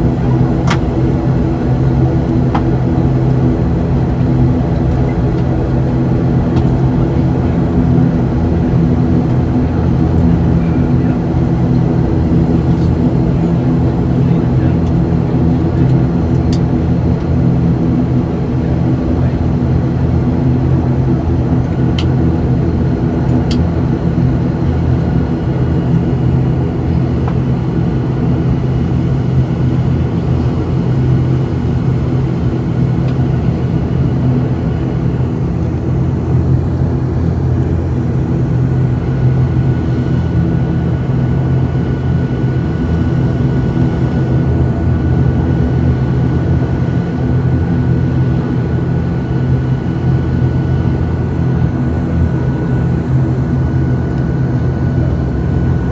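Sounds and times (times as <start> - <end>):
turboprop engines droning: 0.0 - 55.9.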